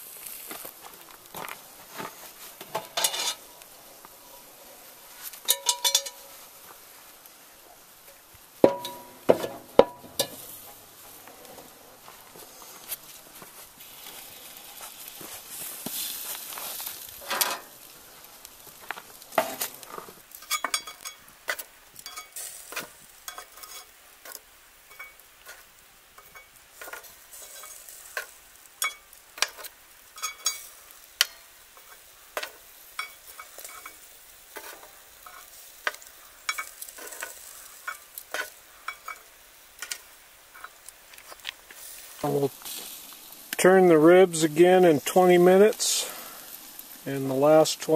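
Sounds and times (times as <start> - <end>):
rustling: 0.0 - 47.9
tongs clicking charcoal on iron: 0.1 - 4.4, 5.1 - 7.4, 8.0 - 47.9.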